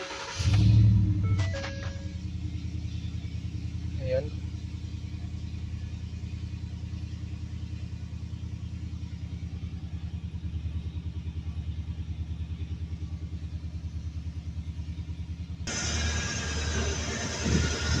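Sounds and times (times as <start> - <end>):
engine idling with low pulse: 0.0 - 18.0.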